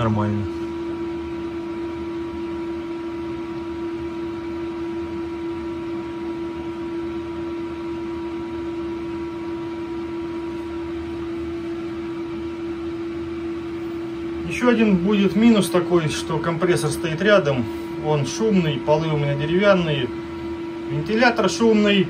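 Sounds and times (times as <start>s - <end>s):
electric machine hum: 0.0s - 22.0s.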